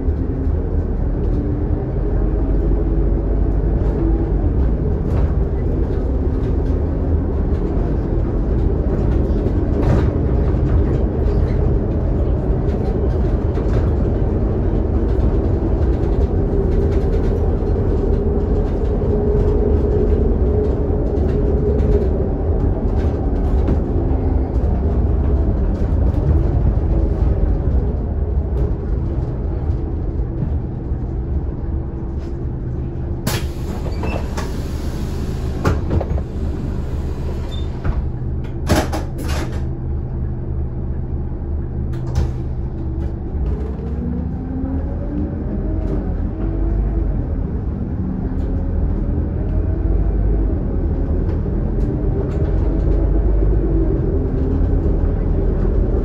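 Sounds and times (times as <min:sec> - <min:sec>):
bus diesel engine rumble: 0:00.0 - 0:56.0.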